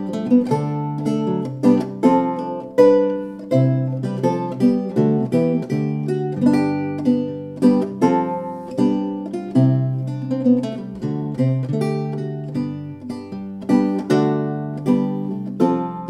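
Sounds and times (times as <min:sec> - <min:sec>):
solo lute playing: 0:00.0 - 0:16.0.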